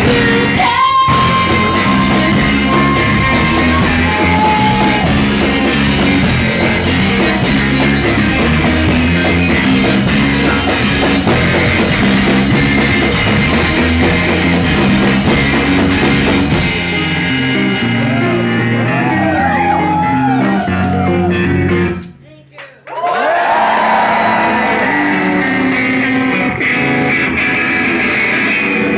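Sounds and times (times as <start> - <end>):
electric bass: 0.0 - 22.1, 24.2 - 28.9
electric guitars: 0.0 - 22.1, 23.9 - 28.9
drum kit: 0.0 - 22.2, 23.8 - 28.9.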